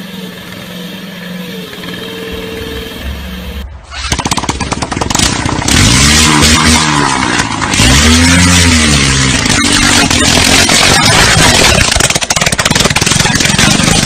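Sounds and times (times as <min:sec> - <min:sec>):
small engine revving and rattling: 0:00.0 - 0:14.0.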